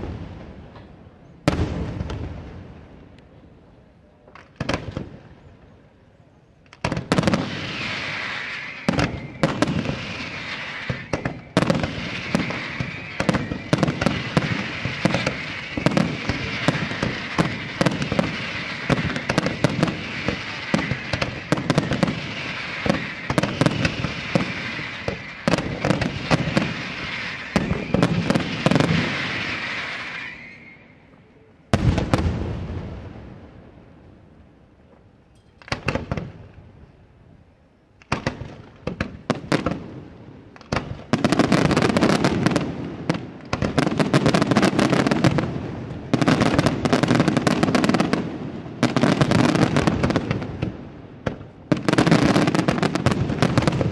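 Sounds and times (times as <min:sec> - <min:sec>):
continuous hiss: 0:00.0 - 0:53.9.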